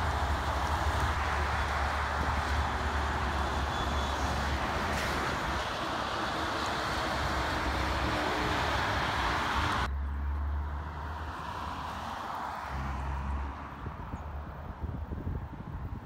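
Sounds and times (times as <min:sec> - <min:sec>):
distant vehicle whine: 0:00.0 - 0:14.1
tank truck passing: 0:00.0 - 0:14.4
highway traffic roar: 0:00.0 - 0:16.0.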